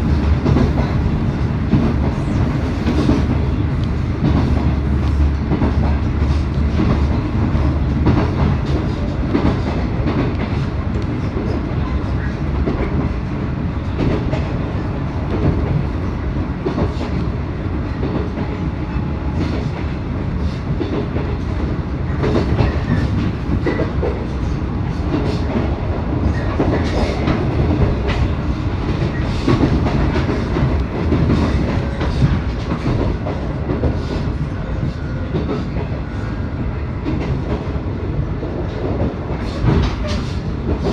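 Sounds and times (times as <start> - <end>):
train rolling rumble: 0.0 - 40.9.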